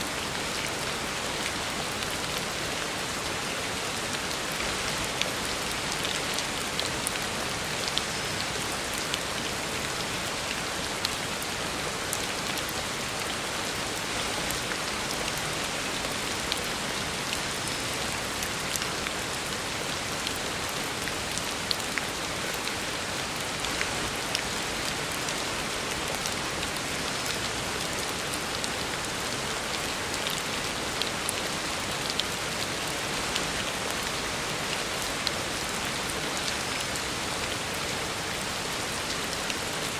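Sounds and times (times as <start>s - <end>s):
heavy rain hissing on road: 0.0s - 39.9s.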